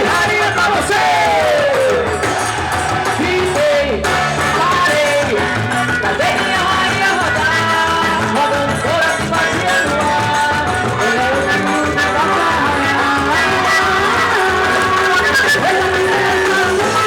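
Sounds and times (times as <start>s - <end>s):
lively dance music band: 0.0s - 17.0s
person singing: 0.0s - 17.0s.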